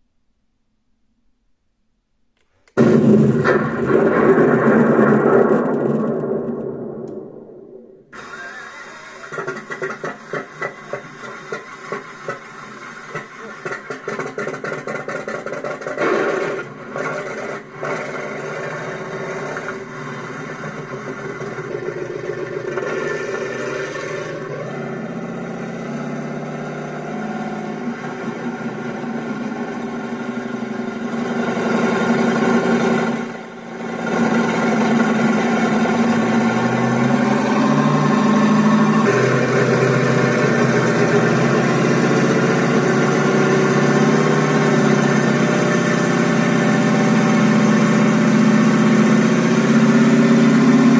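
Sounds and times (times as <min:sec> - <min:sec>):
tank engine sound from speaker: 0:08.2 - 0:50.9.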